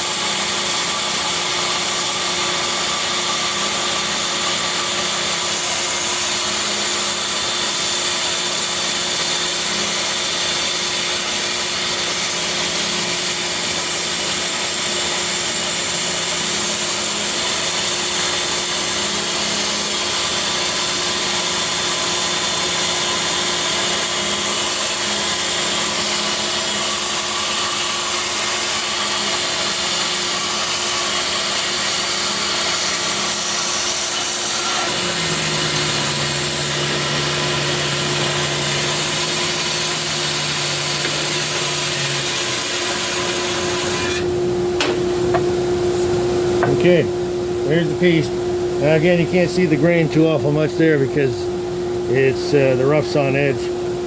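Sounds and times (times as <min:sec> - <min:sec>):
bandsaw cutting wood: 0:00.0 - 0:45.5, 0:46.6 - 0:47.1, 0:47.7 - 0:51.4.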